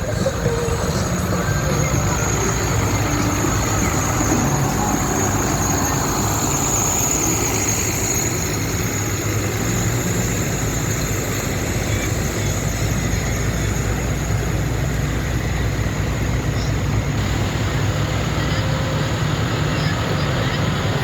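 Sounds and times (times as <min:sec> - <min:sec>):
thin high whine: 0:00.0 - 0:19.9
tractor engines rumbling: 0:00.0 - 0:21.0.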